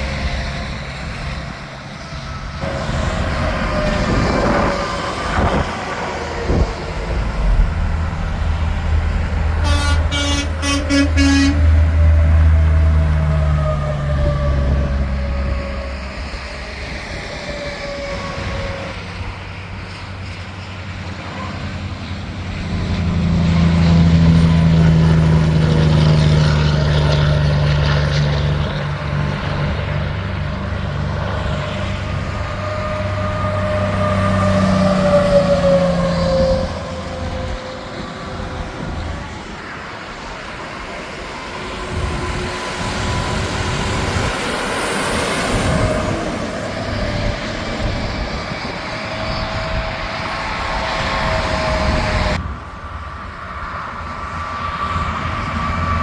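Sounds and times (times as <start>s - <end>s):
diesel engine drone: 0.0s - 56.0s
tyre hum and whine: 0.0s - 56.0s.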